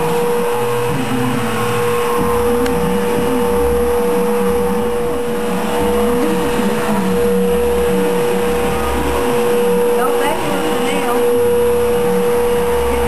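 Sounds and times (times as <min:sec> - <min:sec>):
low rumble: 0:00.0 - 0:13.0
small motor whine: 0:00.0 - 0:13.0
wavering low hum: 0:00.0 - 0:13.0.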